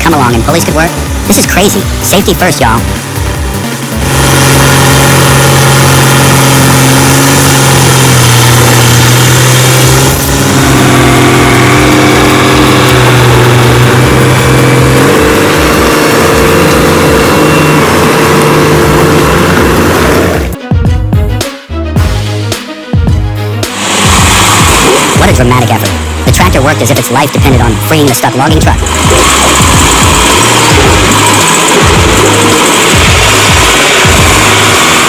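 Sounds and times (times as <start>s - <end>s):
tractor engine running under load: 0.0s - 20.6s, 23.8s - 35.0s.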